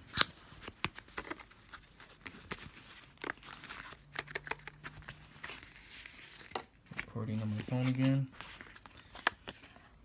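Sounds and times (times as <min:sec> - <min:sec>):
cardboard packaging scrapes and rustles: 0:00.0 - 0:06.6, 0:07.2 - 0:09.9.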